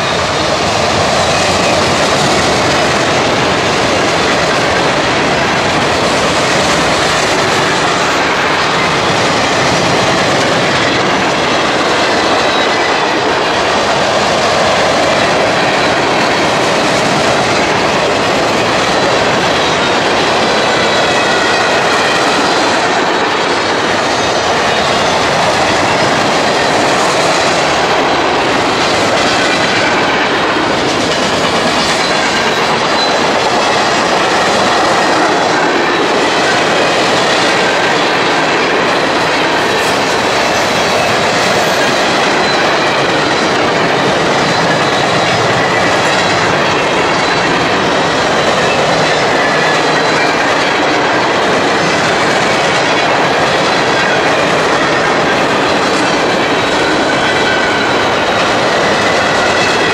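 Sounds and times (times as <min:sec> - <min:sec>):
steel wheels rolling on rails: 0:00.0 - 0:59.9.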